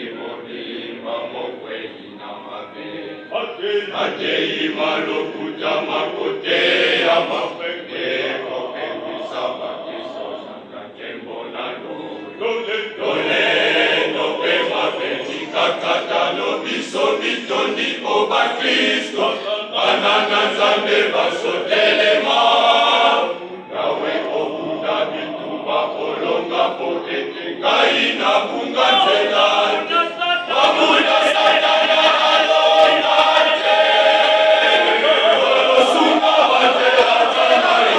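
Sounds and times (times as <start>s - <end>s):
choir singing: 0.0s - 37.9s.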